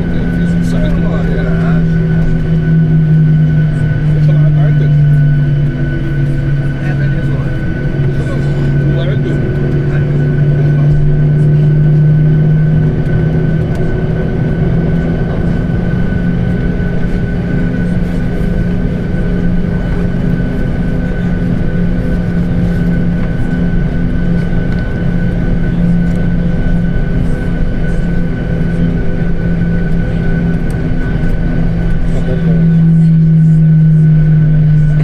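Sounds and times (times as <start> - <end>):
jet airliner cabin drone: 0.0 - 35.0.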